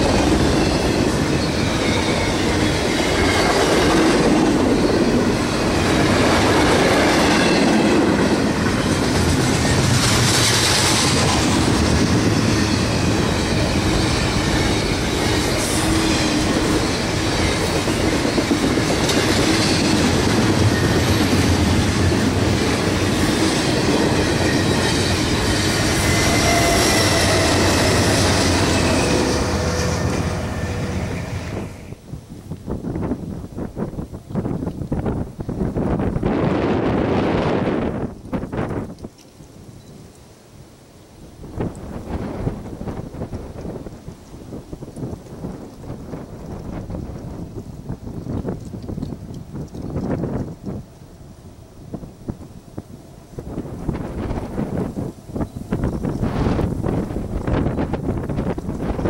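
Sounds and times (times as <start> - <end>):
freight train rumbling past: 0.0 - 39.0, 41.4 - 59.0.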